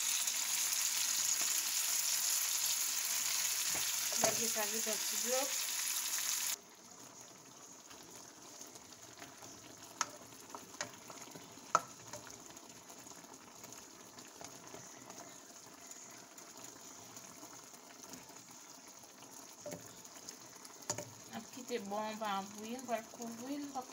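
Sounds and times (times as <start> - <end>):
faint simmering: 0.0 - 23.9
fish sizzling in a pan: 0.0 - 23.9.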